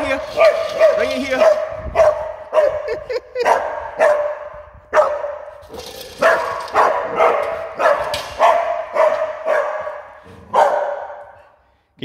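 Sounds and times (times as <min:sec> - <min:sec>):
dog barking: 0:00.4 - 0:05.5, 0:06.2 - 0:11.4.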